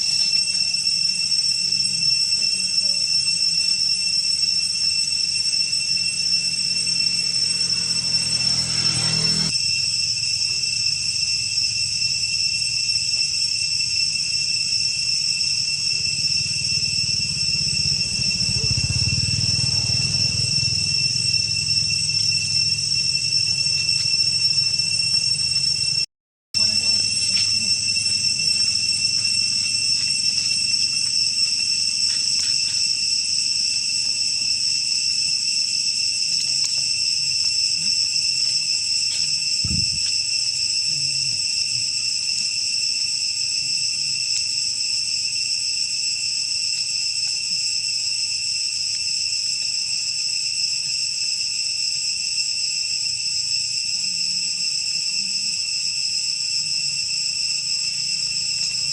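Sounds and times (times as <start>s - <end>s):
insects droning: 0.0s - 58.9s.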